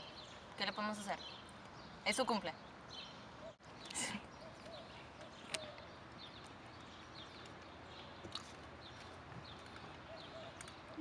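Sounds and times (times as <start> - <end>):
bird chirps: 0.0 - 11.0.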